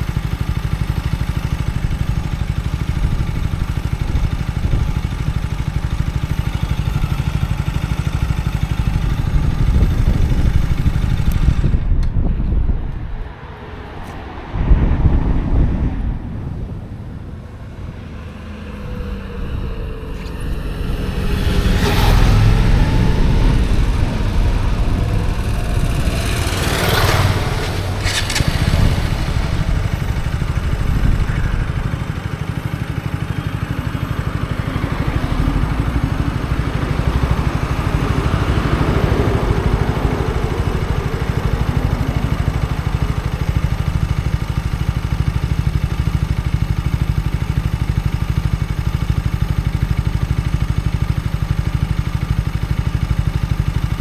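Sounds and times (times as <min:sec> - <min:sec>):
motorcycle engine idling: 0:00.0 - 0:14.4, 0:16.5 - 0:54.0
rushing noise: 0:01.6 - 0:45.5.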